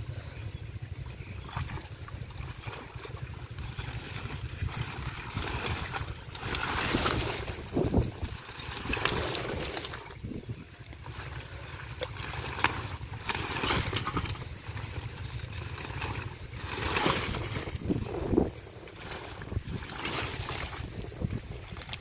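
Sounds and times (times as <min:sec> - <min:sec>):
muddy water splashing and squelching: 0:00.0 - 0:22.0
steady low rumble: 0:00.0 - 0:22.0
leaves and stems rustling: 0:01.0 - 0:22.0.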